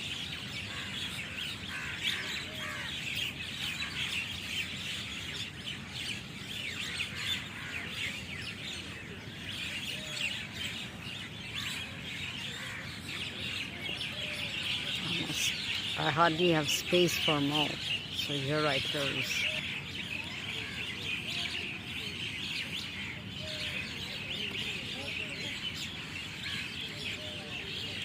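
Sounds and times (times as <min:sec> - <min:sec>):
flock of birds chirping: 0:00.0 - 0:28.0.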